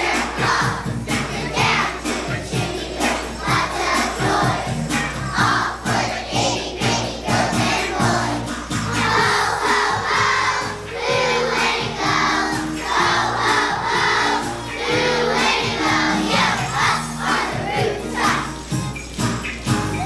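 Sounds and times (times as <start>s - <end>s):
children's choir singing: 0.0s - 20.0s
piano accompaniment: 0.0s - 20.0s.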